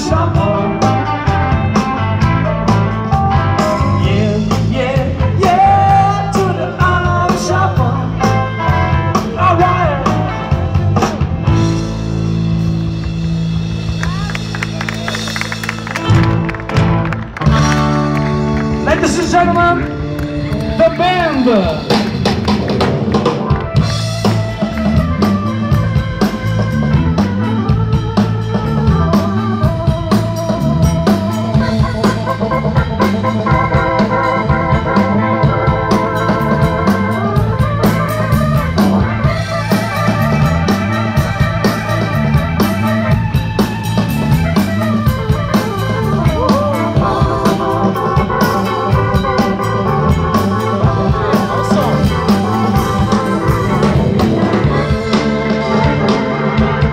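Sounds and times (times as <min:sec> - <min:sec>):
bass line: 0:00.0 - 0:56.9
drum kit: 0:00.0 - 0:56.9
guitar: 0:00.0 - 0:56.9
organ: 0:00.0 - 0:56.9.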